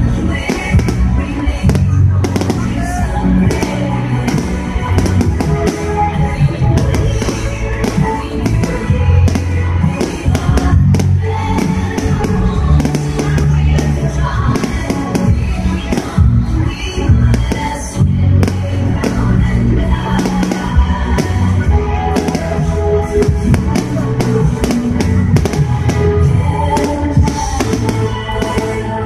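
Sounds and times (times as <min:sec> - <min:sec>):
fireworks bangs and crackles: 0:00.0 - 0:29.0
music with heavy bass: 0:00.0 - 0:29.0.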